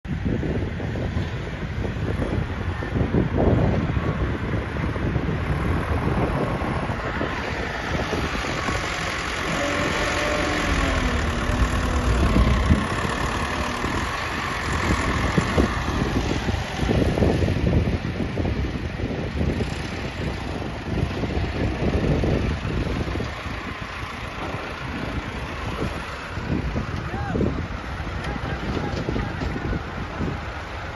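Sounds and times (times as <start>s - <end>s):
diesel engine running: 3.0s - 30.9s.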